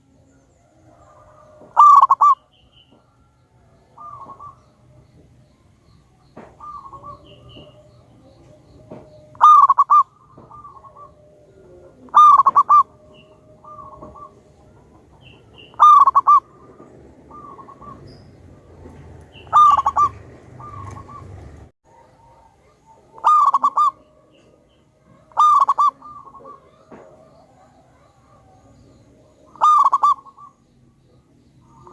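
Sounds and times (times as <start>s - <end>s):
dove cooing: 0.6s - 5.2s, 6.4s - 31.9s.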